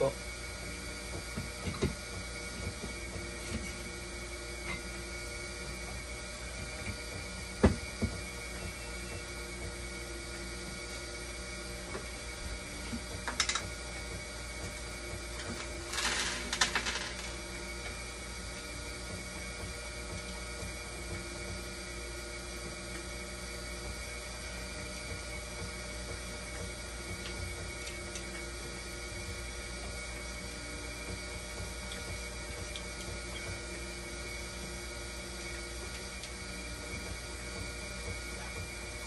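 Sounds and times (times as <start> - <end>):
machine hum with held tones: 0.0 - 39.0.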